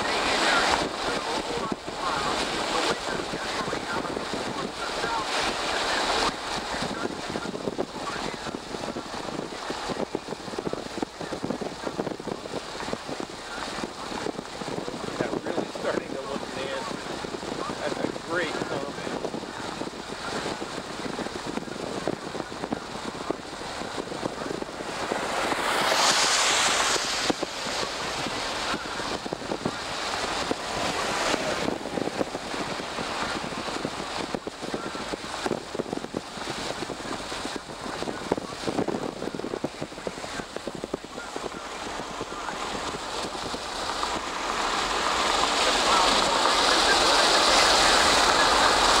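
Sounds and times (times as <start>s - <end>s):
car road and wind noise: 0.0s - 49.0s.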